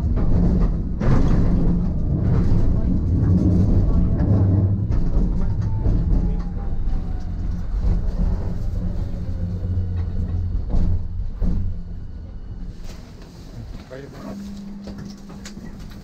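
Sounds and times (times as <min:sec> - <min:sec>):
tram motor whine: 0:00.0 - 0:16.0
tram running gear rumbling: 0:00.0 - 0:16.0.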